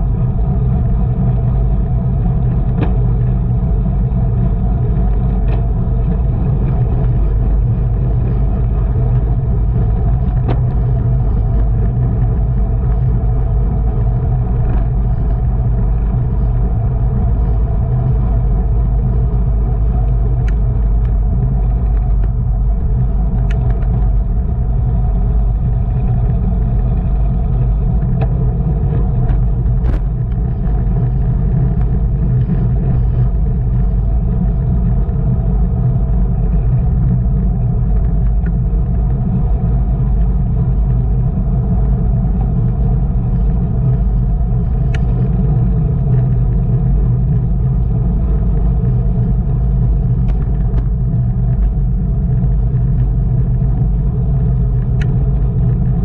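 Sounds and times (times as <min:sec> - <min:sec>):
road and tyre noise: 0:00.0 - 0:56.0
wind rushing over microphone: 0:00.0 - 0:56.0.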